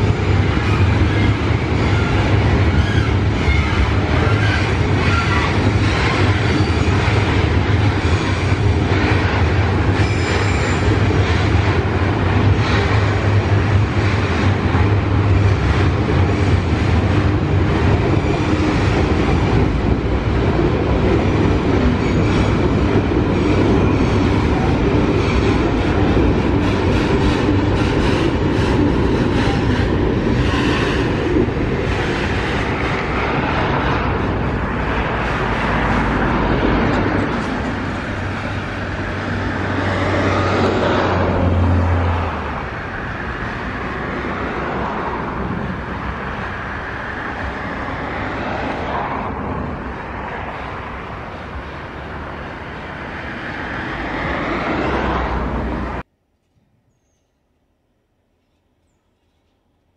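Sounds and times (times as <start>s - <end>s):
freight train rumbling past: 0.0s - 56.1s.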